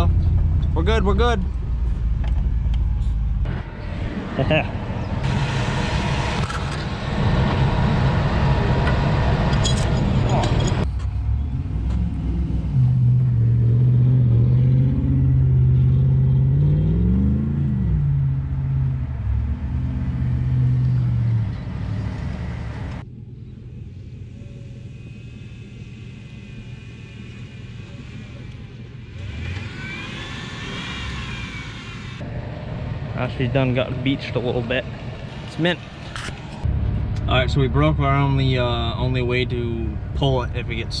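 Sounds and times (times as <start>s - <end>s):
engine revving: 3.4s - 23.0s, 26.7s - 41.0s.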